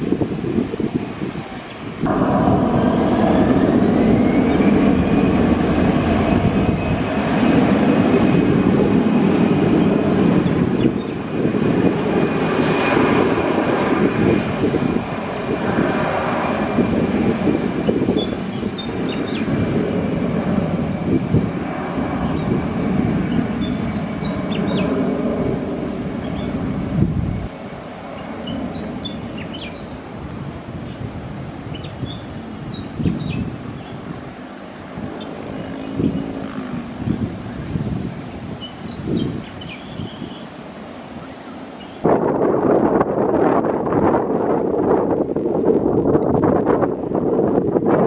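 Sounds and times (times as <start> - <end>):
jet engine roar: 0.0 - 48.0
jet engine whine: 0.0 - 48.0.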